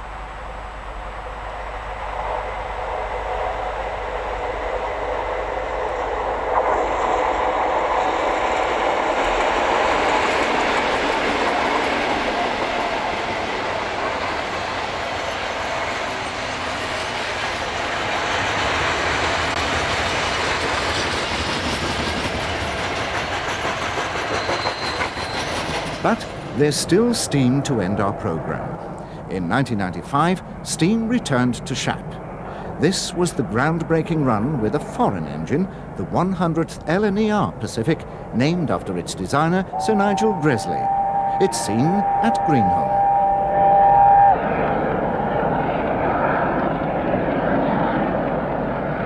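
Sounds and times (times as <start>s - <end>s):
diesel locomotives hauling train: 0.0s - 49.0s.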